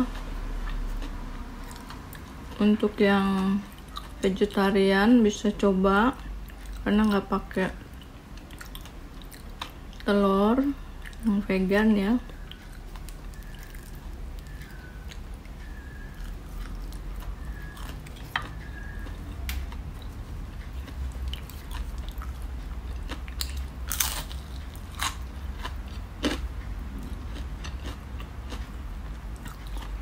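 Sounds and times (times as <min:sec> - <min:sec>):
chewing crispy fried food: 0:00.0 - 0:04.7, 0:06.2 - 0:11.4, 0:12.2 - 0:30.0.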